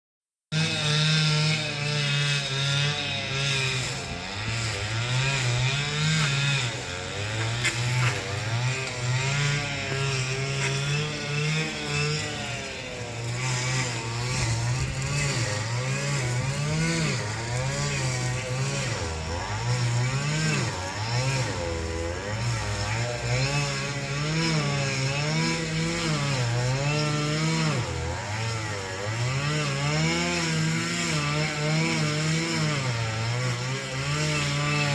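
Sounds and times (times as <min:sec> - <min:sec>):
power tool engine revving: 0:00.5 - 0:34.9.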